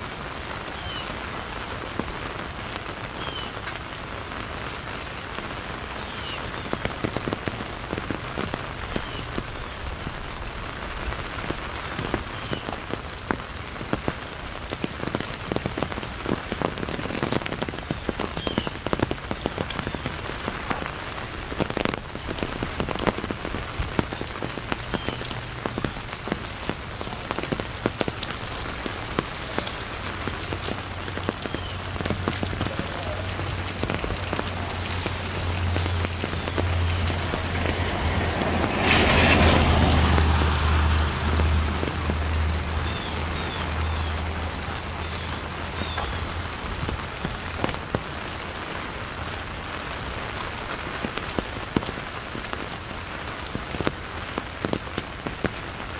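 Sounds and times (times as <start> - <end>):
rain falling: 0.0 - 55.9
raindrops tapping close by: 0.0 - 55.9.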